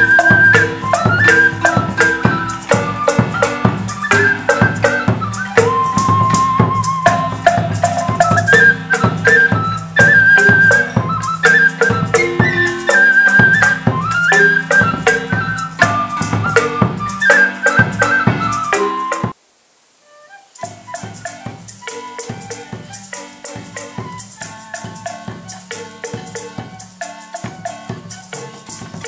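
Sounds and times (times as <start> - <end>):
drum strokes: 0.0 - 19.4, 20.6 - 29.0
small flute melody: 0.0 - 19.4, 20.0 - 29.0.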